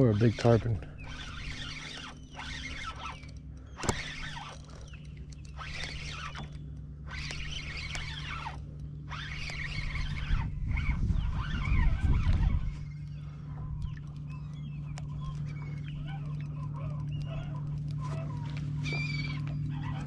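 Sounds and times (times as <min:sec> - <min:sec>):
fishing reel cranking: 0:00.0 - 0:20.0
steady low hum: 0:00.0 - 0:20.0.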